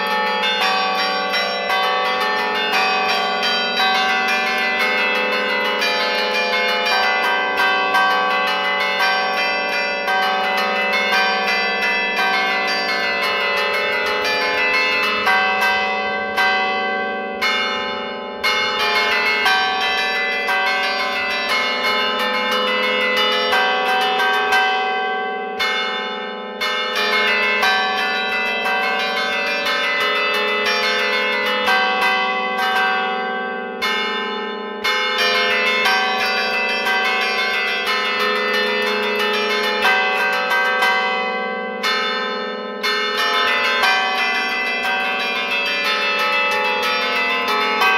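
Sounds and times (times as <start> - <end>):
church bells struck in rapid patterns: 0.0 - 47.9.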